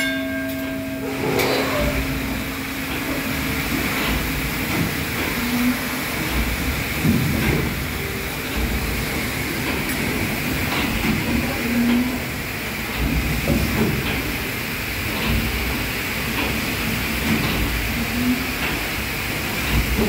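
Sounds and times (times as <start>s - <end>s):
steam engine churning: 0.0s - 20.0s.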